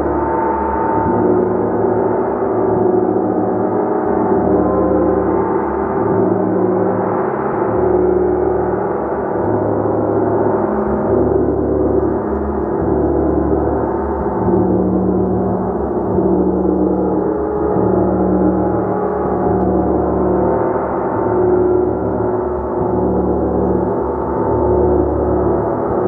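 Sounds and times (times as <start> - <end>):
gong shimmering: 0.0 - 26.0.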